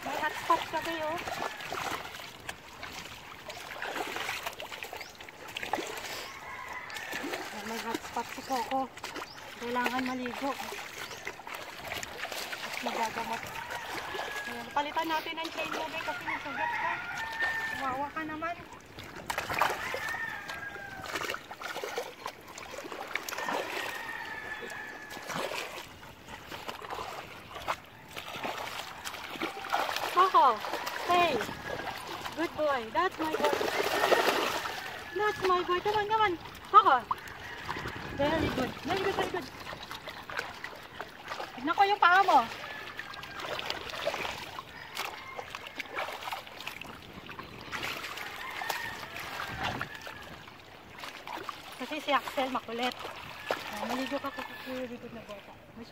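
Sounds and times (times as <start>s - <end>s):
shallow water splashing and trickling: 0.0s - 55.9s.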